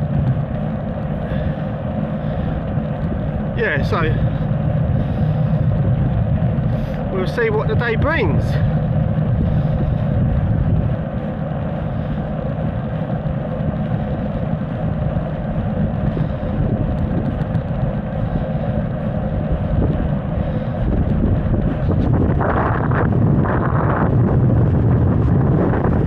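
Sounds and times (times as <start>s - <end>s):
constant low hum: 0.0s - 26.0s
mountain bike ride rumble: 0.0s - 26.0s.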